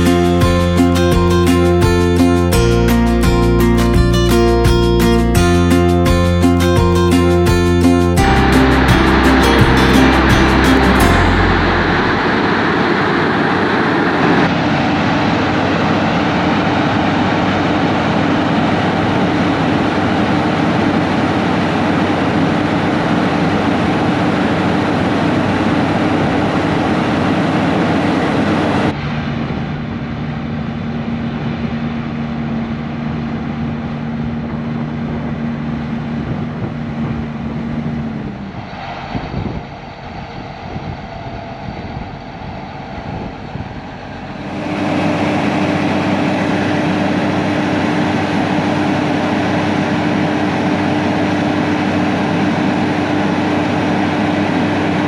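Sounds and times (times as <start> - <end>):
diesel machinery humming: 0.0 - 55.0.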